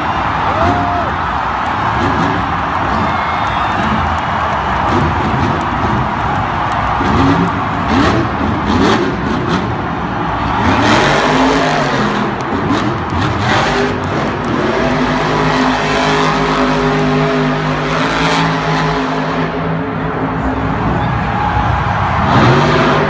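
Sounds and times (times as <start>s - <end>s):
truck engine revving: 0.0s - 21.0s, 21.7s - 23.0s.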